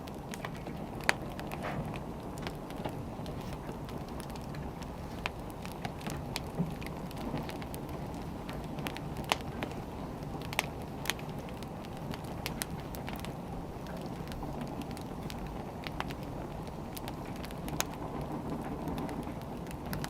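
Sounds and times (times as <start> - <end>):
firewood burning and crackling: 0.0 - 20.0.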